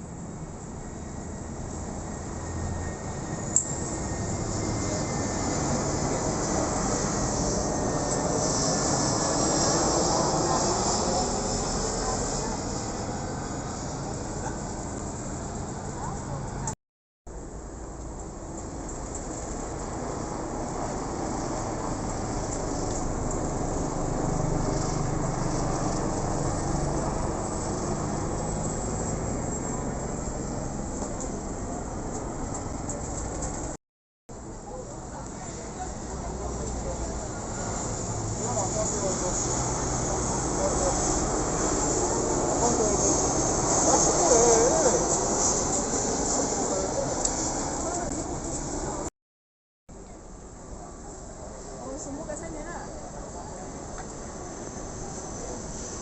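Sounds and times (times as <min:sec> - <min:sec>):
aircraft engine roar: 0:00.4 - 0:16.8, 0:18.4 - 0:33.8, 0:34.5 - 0:49.1.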